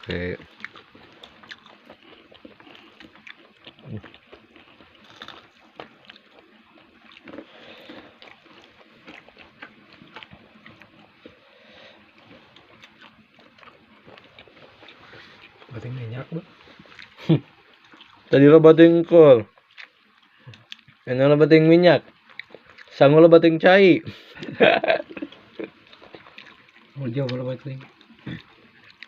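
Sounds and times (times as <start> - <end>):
chewing and wet mouth noises: 0.0 - 18.8, 19.5 - 21.1, 22.0 - 23.4, 24.1 - 29.0.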